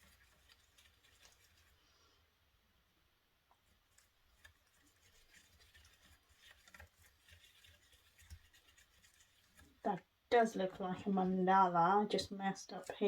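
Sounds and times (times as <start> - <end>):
small brush scratching and tapping: 0.0 - 2.1, 3.5 - 13.0.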